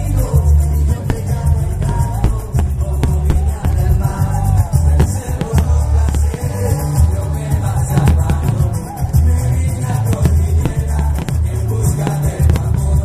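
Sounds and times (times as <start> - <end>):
heavy pulsing bass beat: 0.0 - 13.0
loud music with singing: 0.0 - 13.0.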